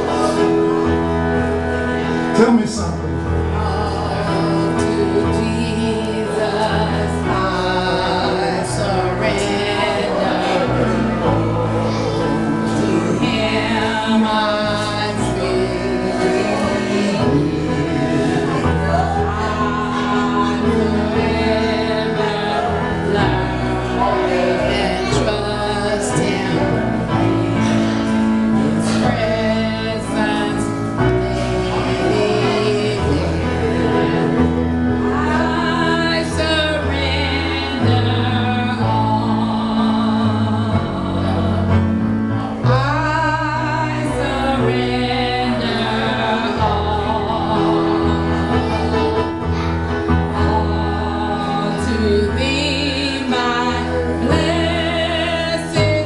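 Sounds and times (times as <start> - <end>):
gospel singing with accompaniment: 0.0 - 56.0.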